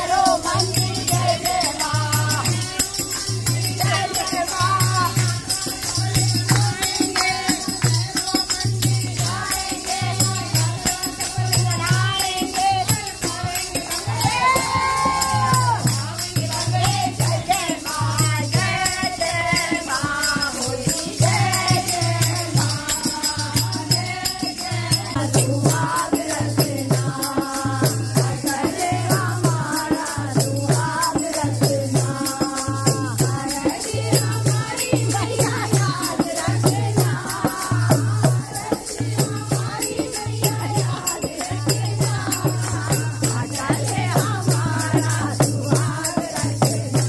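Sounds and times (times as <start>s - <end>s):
hand drum beat: 0.0s - 47.0s
rattle shaken: 0.0s - 47.0s
voices singing together: 0.0s - 47.0s.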